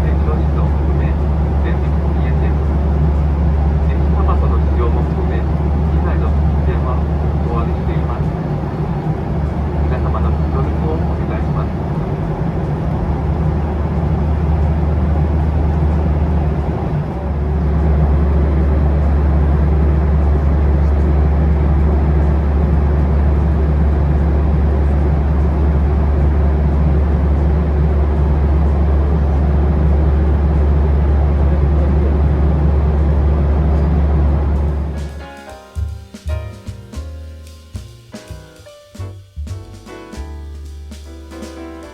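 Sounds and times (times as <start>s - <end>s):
jet engine cabin hum: 0.0s - 36.5s.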